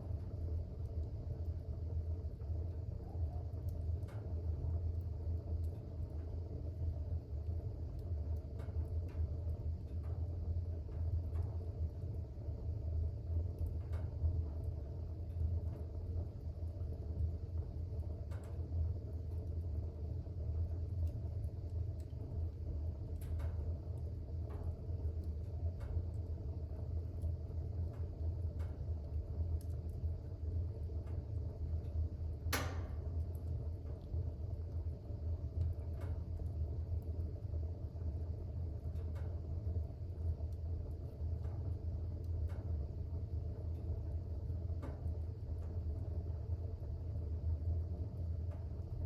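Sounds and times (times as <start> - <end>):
fire crackling: 0.0 - 49.0
fire popping: 0.0 - 49.0
fire rumbling: 0.0 - 49.0.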